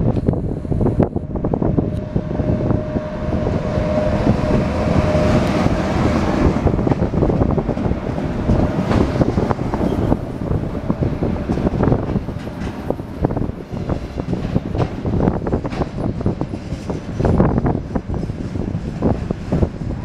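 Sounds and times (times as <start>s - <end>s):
locomotive rumble: 0.0s - 20.0s
locomotive whine: 0.0s - 20.0s.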